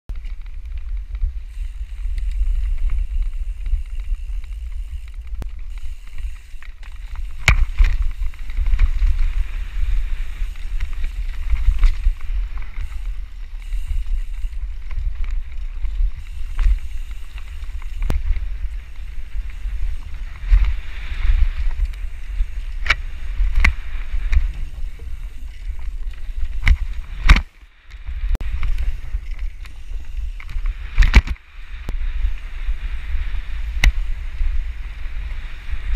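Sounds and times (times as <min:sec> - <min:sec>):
bike knocking and rattling: 0:00.1 - 0:35.9
wind buffeting microphone: 0:00.1 - 0:35.9.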